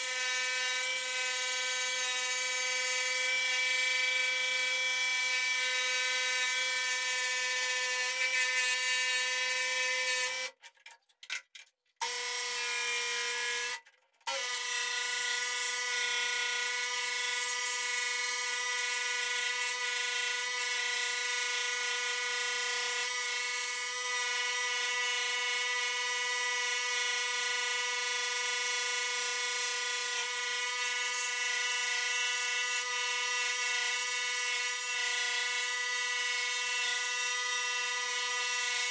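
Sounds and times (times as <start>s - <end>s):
scroll saw cutting wood: 0.0s - 10.6s, 12.0s - 38.9s.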